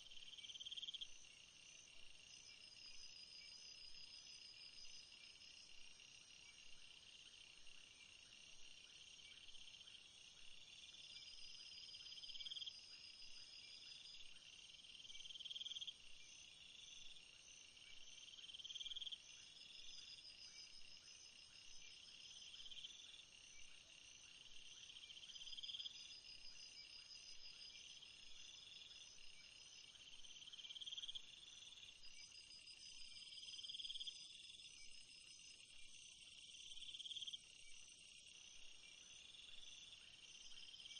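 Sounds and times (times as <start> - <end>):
insect trill: 0.0 - 40.9.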